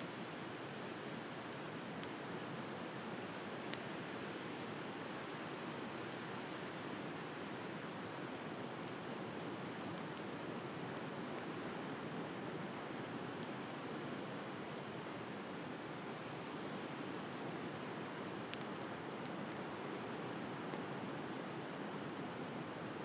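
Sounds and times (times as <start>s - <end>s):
bonfire crackling: 0.2s - 23.0s.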